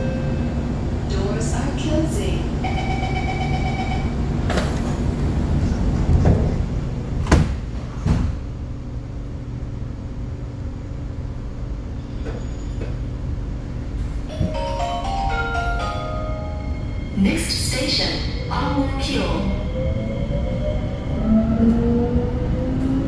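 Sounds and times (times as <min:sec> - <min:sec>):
metro train rumble and hum: 0:00.0 - 0:23.0.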